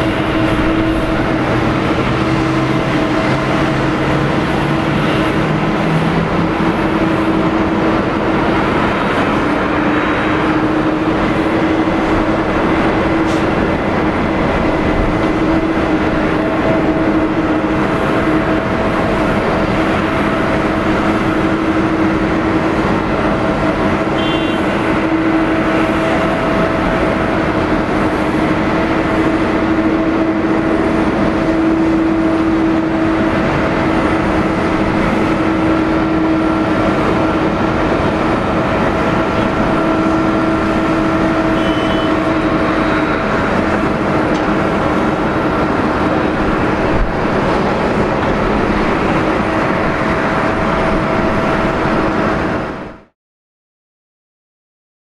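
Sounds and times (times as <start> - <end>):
jet engines at taxi power: 0.0 - 53.2.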